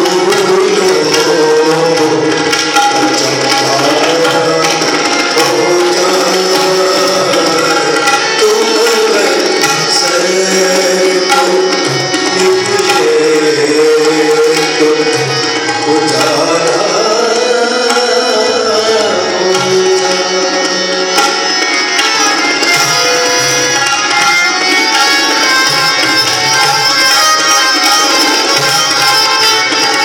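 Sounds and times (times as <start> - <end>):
harmonium playing: 0.0 - 30.0
tabla rhythm: 0.0 - 30.0.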